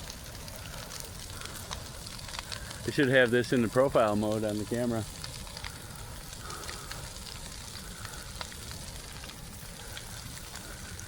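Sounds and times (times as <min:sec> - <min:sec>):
brush pile burning: 0:00.0 - 0:11.0.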